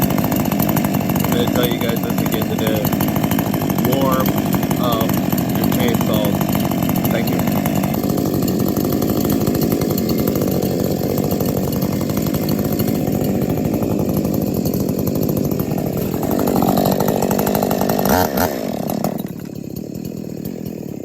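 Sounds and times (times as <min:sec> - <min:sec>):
chainsaws running: 0:00.0 - 0:21.0.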